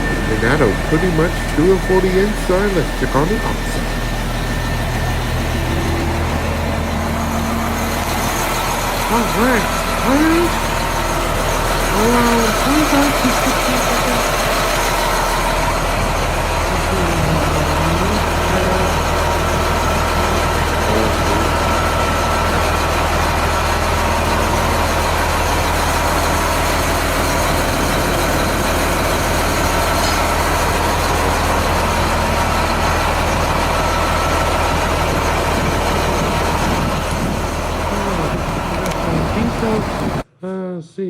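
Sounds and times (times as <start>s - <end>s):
diesel engine idling: 0.0s - 40.3s.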